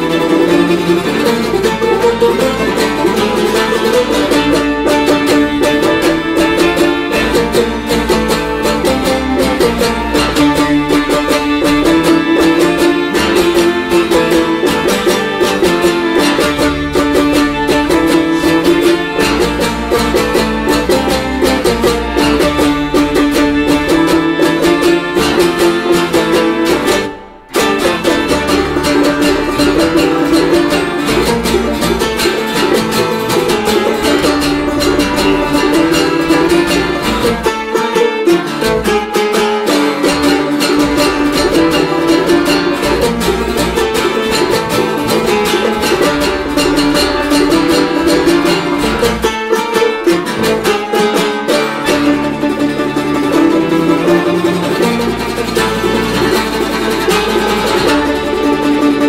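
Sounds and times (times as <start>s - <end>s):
plucked acoustic strings music: 0.0s - 59.0s.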